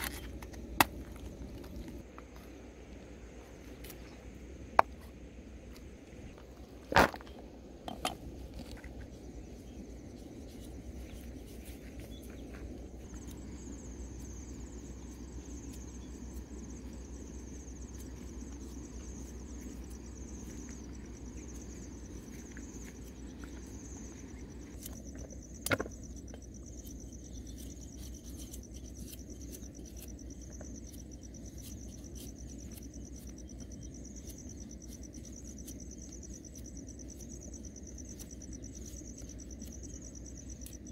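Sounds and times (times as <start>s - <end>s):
insects chirring: 0.0s - 40.9s
low outdoor rumble: 0.0s - 40.9s.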